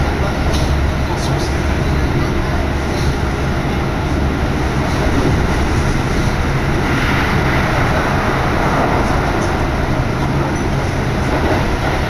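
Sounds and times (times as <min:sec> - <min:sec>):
train running noise inside carriage: 0:00.0 - 0:12.0.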